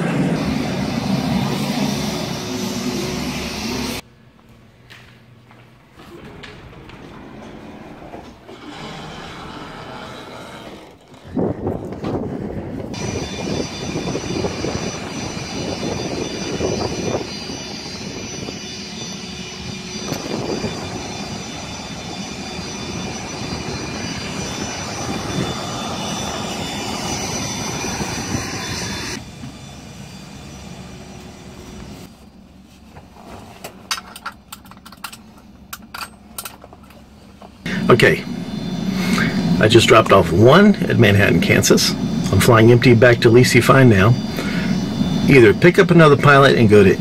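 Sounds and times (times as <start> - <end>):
turbine aircraft engine whine: 0.0 - 47.0.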